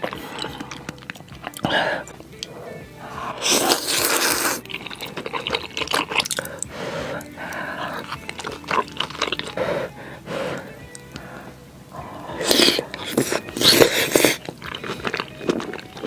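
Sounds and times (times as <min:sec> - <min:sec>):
person slurping noodles: 0:00.0 - 0:15.8
wet chewing and smacking: 0:00.0 - 0:16.0.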